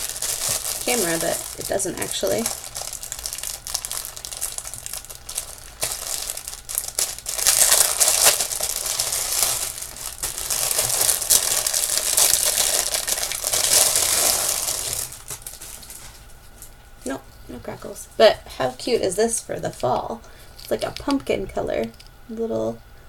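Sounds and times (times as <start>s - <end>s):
plastic bags crinkling: 0.0s - 16.8s, 19.8s - 22.0s.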